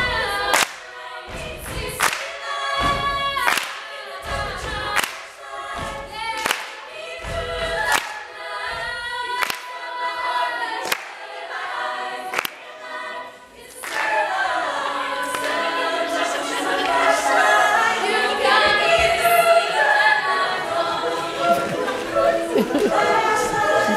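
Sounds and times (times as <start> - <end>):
women singing in harmony: 0.0 - 23.9.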